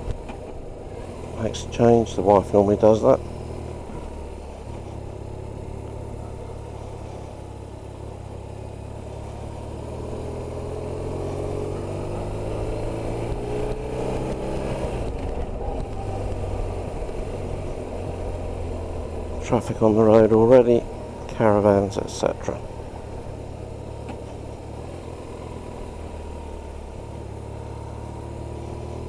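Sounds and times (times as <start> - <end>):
motorcycle engine on the road: 0.0 - 29.0.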